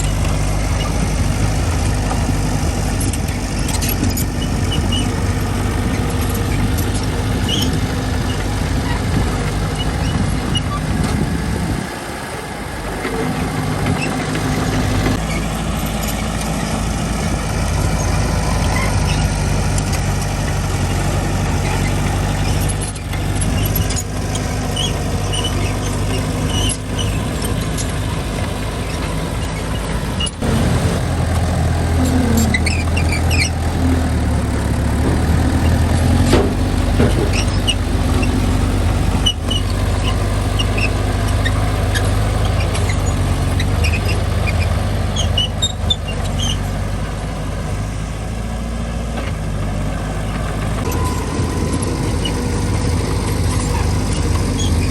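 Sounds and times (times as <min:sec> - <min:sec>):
heavy machinery diesel engine running: 0:00.0 - 0:54.9.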